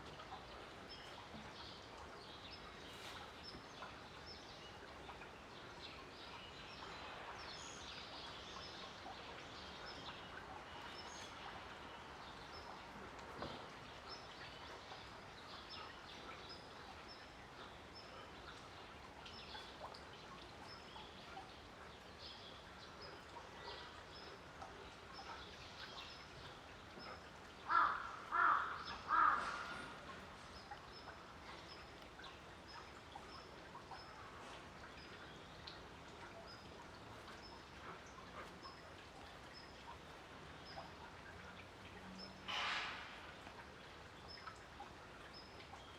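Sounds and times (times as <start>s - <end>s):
faint outdoor ambience: 0.0s - 45.9s.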